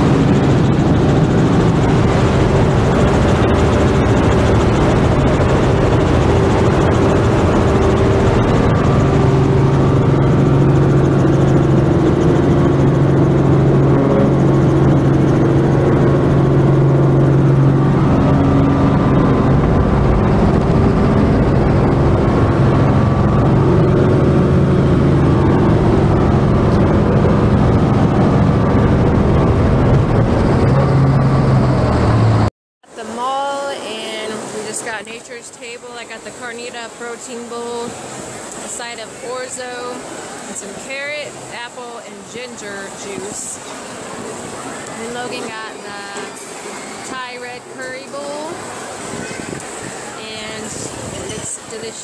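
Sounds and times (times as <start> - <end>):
helicopter engine and rotor drone: 0.0 - 52.0.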